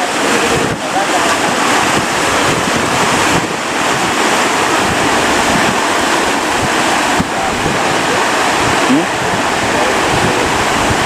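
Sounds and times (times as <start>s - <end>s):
ocean waves breaking: 0.0s - 11.0s
wind buffeting microphone: 0.0s - 11.0s.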